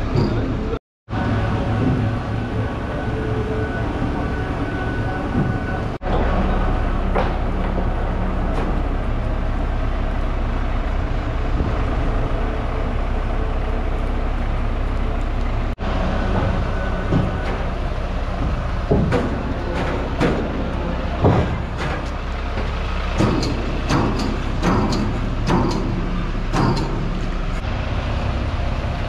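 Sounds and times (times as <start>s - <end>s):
crane mechanical rumble: 0.0s - 29.0s
motor hum: 0.0s - 29.0s.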